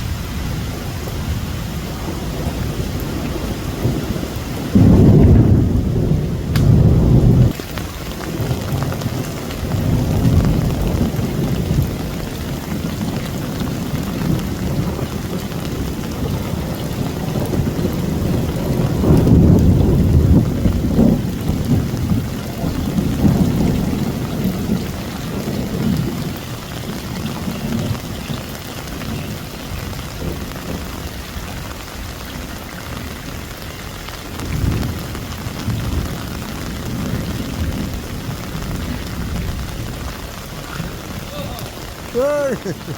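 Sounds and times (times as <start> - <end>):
deep rolling thunder: 0.0 - 33.2, 34.3 - 42.2
heavy rain pouring: 0.0 - 42.9.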